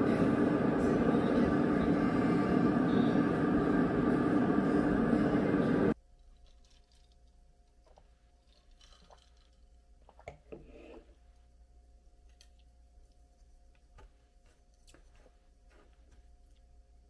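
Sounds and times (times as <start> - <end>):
faint low room hum: 0.0 - 17.0.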